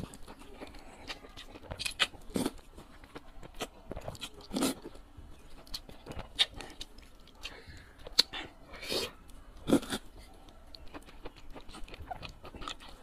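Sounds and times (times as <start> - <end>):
slurping and chewing noodles: 0.0 - 13.0.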